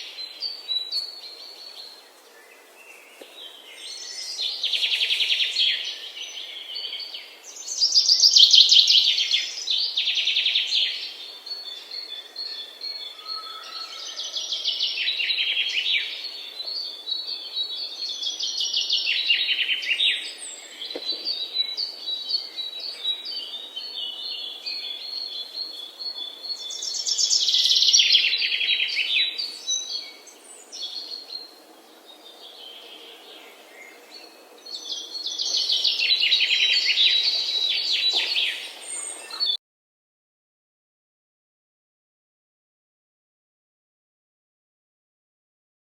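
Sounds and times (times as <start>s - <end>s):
songbirds trilling: 0.0s - 39.6s.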